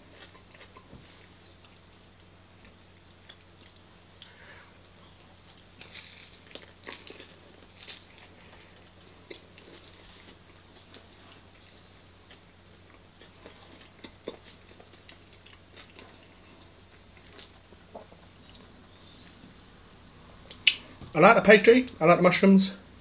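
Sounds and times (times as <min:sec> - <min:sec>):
person chewing food: 0:00.0 - 0:19.4
faint low hum: 0:00.0 - 0:23.0.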